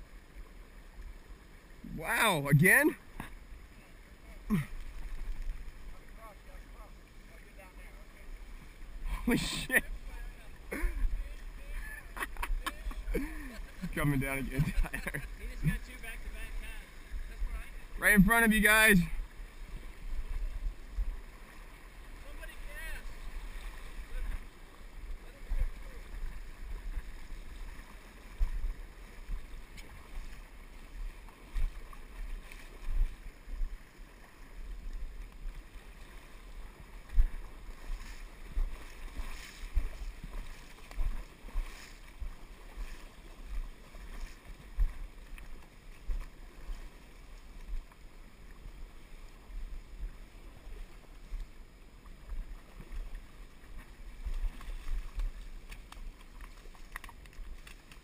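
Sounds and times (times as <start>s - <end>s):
water splashes: 0.0s - 58.0s.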